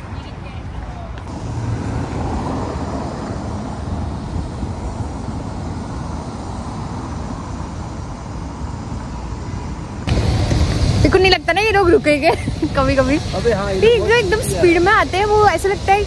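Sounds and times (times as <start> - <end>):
cars driving on cobblestones: 0.0 - 16.0.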